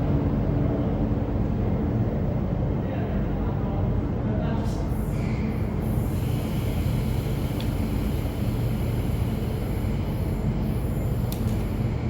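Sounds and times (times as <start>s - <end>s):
metro train rumbling on rails: 0.0s - 12.0s.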